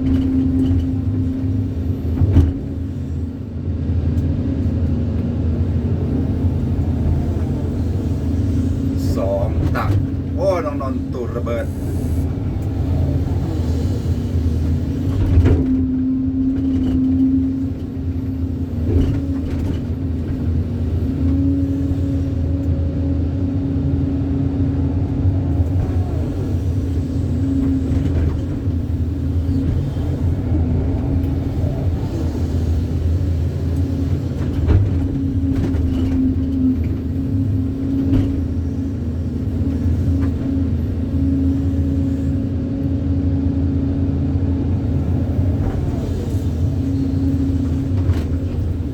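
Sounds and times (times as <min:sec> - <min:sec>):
excavator diesel engine: 0:00.0 - 0:48.9.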